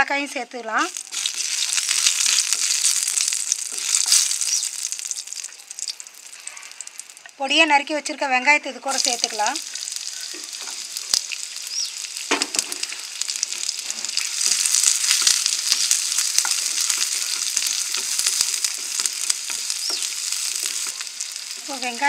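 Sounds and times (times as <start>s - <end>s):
onions sizzling in butter: 0.0s - 8.1s, 8.7s - 22.0s.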